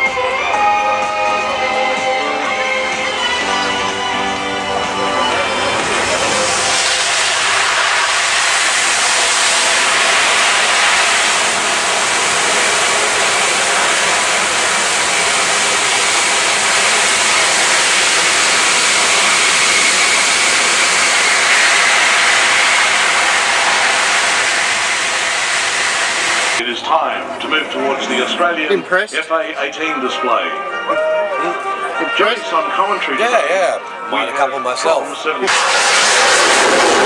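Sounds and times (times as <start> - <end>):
high engine whine: 0.0 - 33.9, 35.1 - 37.0
jet aircraft passing low: 0.9 - 29.8, 35.2 - 37.0.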